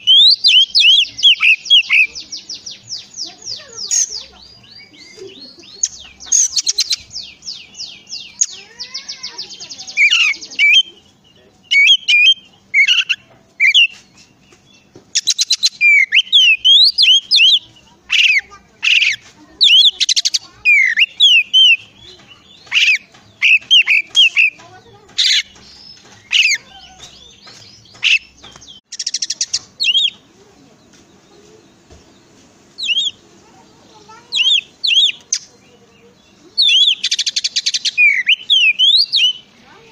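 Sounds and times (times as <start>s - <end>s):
bird singing trills and whistles: 0.0s - 32.2s, 32.8s - 39.8s.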